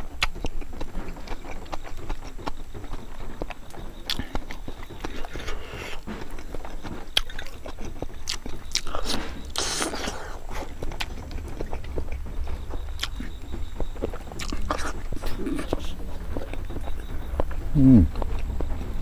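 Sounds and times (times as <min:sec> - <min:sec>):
person chewing eggs: 0:00.0 - 0:18.8.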